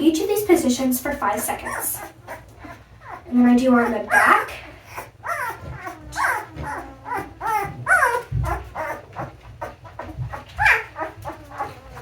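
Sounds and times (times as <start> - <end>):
puppy whimpering: 0.1 - 12.0.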